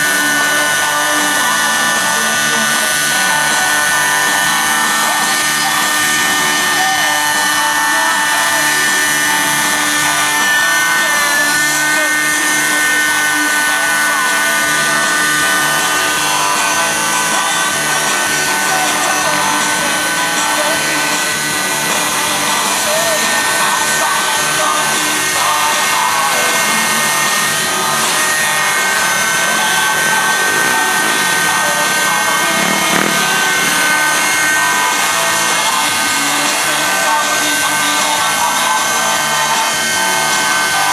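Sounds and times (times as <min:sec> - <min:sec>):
model helicopter engine whine: 0:00.0 - 0:40.9.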